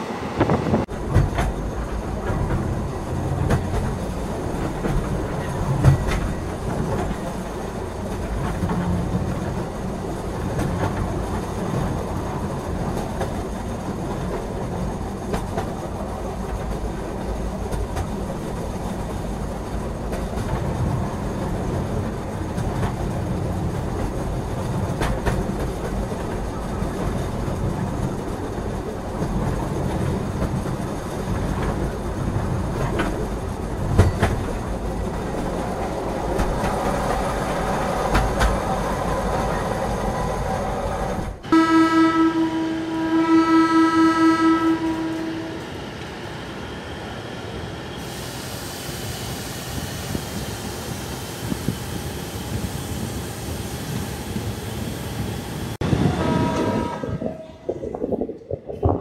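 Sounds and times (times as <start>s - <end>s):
train wheels rumbling on rails: 0.0s - 59.0s
clickety-clack of rail joints: 0.4s - 46.6s, 47.2s - 59.0s.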